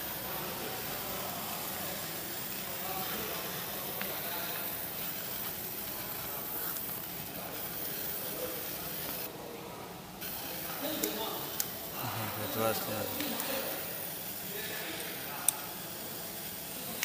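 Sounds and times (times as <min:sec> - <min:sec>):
laser sizzling hiss on metal: 0:00.0 - 0:09.3, 0:10.2 - 0:17.0.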